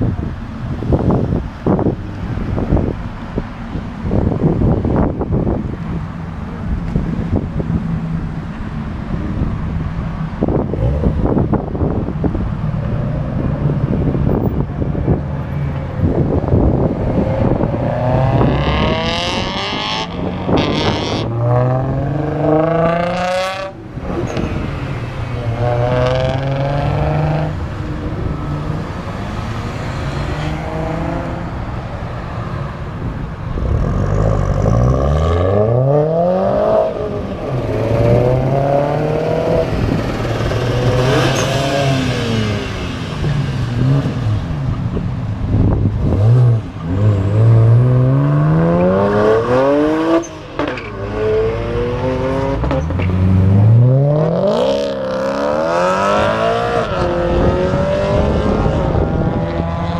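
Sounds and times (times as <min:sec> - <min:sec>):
car engines revving and accelerating: 0:00.0 - 0:59.9.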